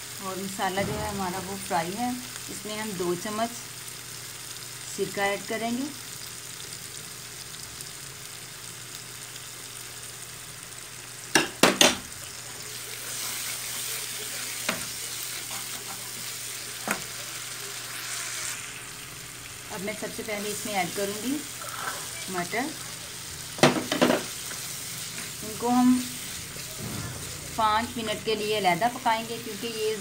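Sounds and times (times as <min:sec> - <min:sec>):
paste sizzling in hot oil: 0:00.0 - 0:30.0.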